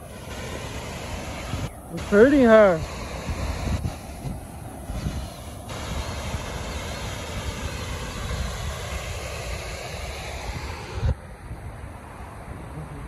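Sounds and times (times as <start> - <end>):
small waterfall rushing: 0.0 - 13.0
wind buffeting microphone: 0.4 - 13.0.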